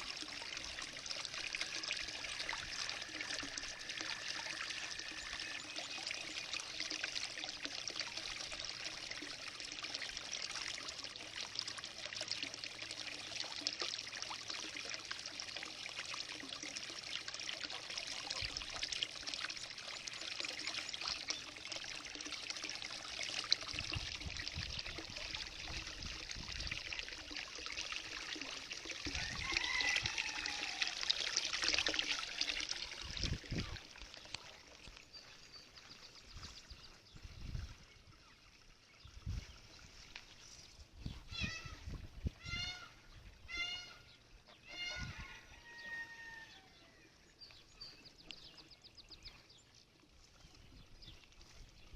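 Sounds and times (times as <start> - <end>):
water trickling and pouring: 0.0 - 51.9.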